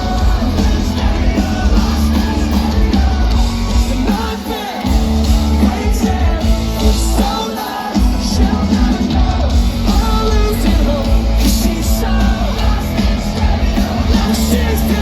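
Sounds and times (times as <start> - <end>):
person singing: 0.0 - 15.0
pop-punk band playing live: 0.0 - 15.0.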